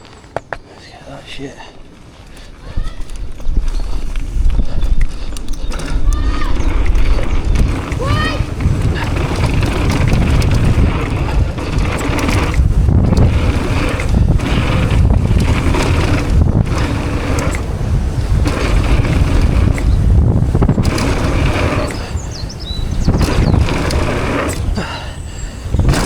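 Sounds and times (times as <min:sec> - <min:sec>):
bike rattling over rough trail: 0:00.0 - 0:26.0
wind buffeting the microphone: 0:01.2 - 0:26.0.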